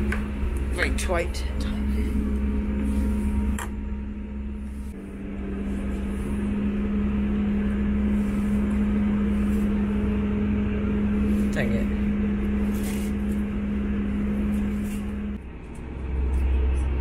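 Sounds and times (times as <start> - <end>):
train diesel engine idling: 0.0 - 17.0.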